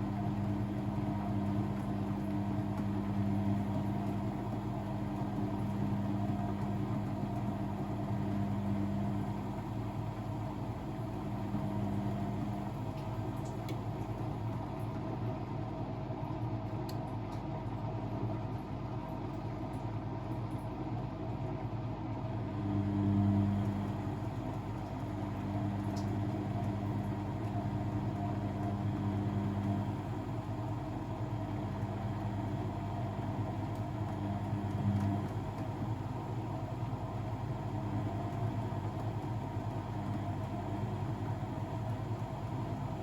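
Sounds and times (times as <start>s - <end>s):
washing machine motor hum: 0.0s - 43.0s.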